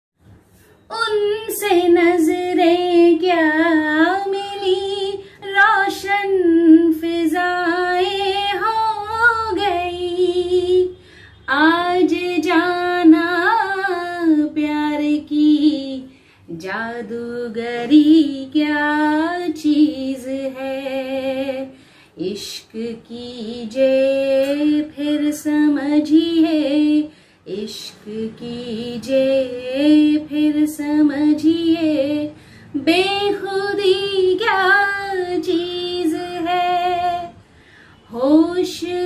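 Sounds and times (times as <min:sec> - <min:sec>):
woman singing unaccompanied: 0:00.9 - 0:37.4, 0:38.0 - 0:39.0.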